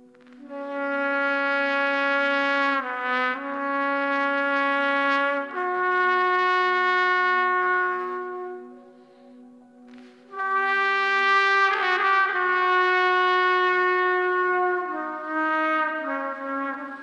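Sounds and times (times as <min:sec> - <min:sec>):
trumpet playing long notes: 0:00.0 - 0:17.0.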